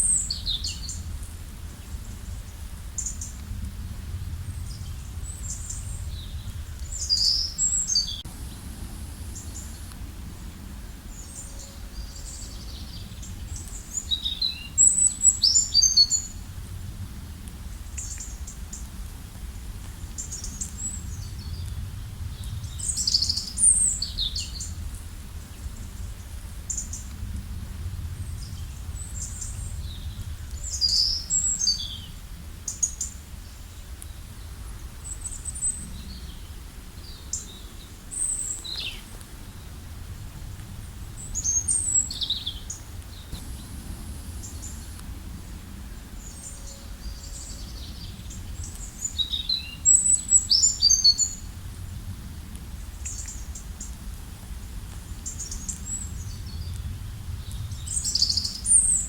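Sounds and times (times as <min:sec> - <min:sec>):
songbirds singing: 0:00.0 - 0:19.0, 0:19.9 - 0:27.4, 0:28.0 - 0:39.8, 0:40.9 - 0:52.0, 0:52.8 - 0:54.0, 0:55.1 - 0:59.0
low background rumble: 0:00.0 - 0:59.0.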